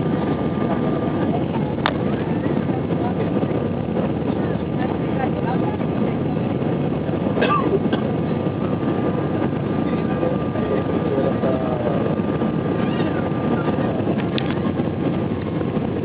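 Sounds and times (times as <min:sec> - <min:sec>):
aircraft cabin engine and airflow noise: 0:00.0 - 0:16.0.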